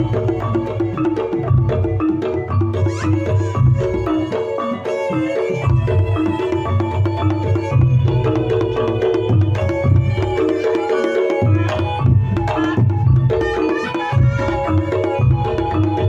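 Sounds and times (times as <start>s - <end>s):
hand drums beating fast: 0.0s - 16.0s.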